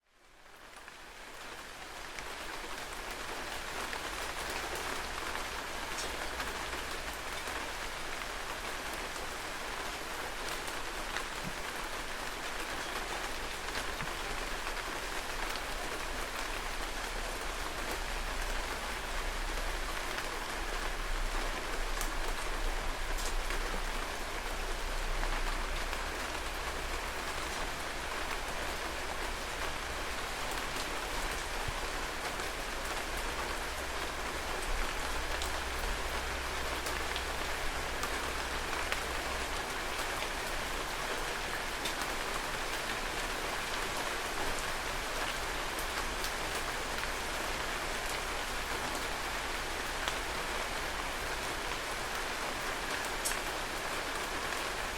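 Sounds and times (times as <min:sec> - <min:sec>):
heavy rain falling: 0:00.2 - 0:54.9.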